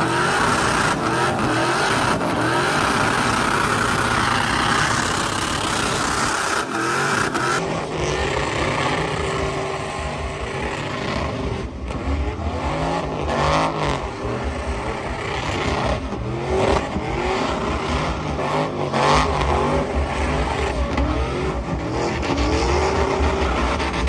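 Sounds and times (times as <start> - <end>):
truck engines revving: 0.0 - 24.0.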